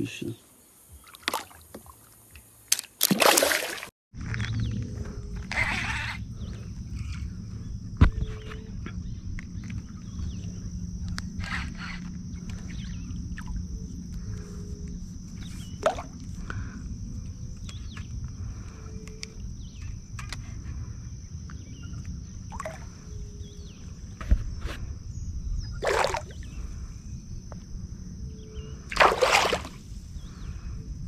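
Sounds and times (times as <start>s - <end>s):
wind rumble on microphone: 4.2s - 29.0s, 29.6s - 31.0s.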